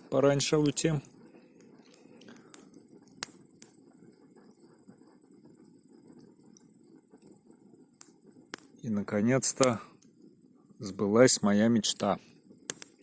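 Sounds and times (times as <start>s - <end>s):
campfire crackling: 0.0s - 13.0s
low steady hiss: 0.0s - 13.0s
sharp pops from fire: 0.0s - 13.0s.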